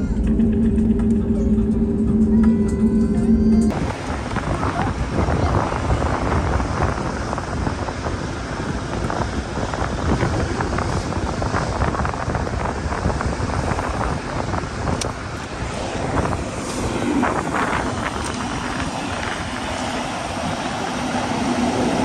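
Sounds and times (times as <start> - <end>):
steady hum: 0.0 - 22.0
wind buffeting microphone: 0.0 - 22.0.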